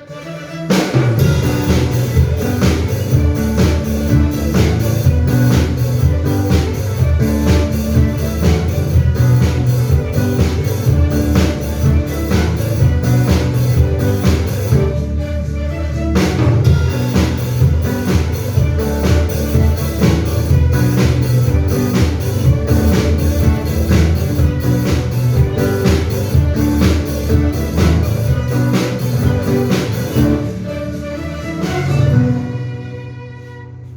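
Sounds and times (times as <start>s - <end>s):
band playing a song: 0.0s - 33.5s.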